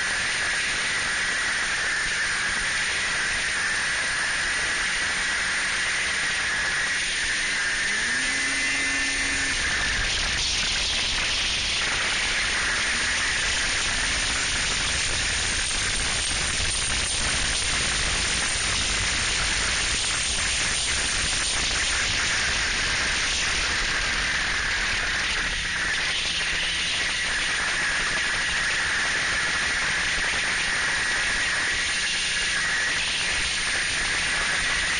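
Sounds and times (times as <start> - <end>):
faint snowmobile engine: 0.0 - 34.9
wind noise on microphone: 0.0 - 34.9.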